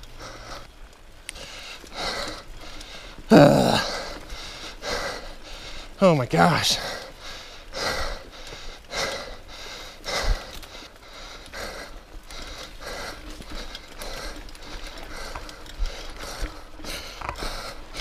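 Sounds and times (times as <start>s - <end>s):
bike clicks and rattles: 0.0s - 6.0s, 6.7s - 18.0s
person breathing hard: 0.1s - 6.0s, 6.7s - 18.0s.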